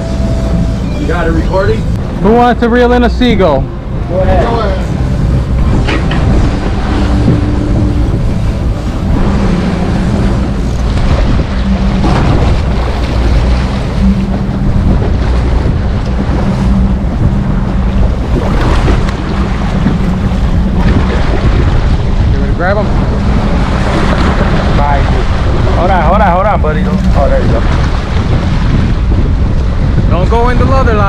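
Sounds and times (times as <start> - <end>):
boat engine drone: 0.0 - 31.0
water washing past: 0.0 - 31.0
wind rushing over microphone: 0.0 - 31.0.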